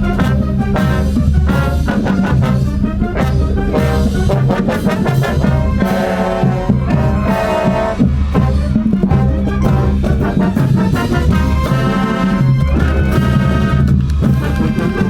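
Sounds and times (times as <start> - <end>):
drum strikes: 0.0 - 15.0
marching band playing: 0.0 - 15.0.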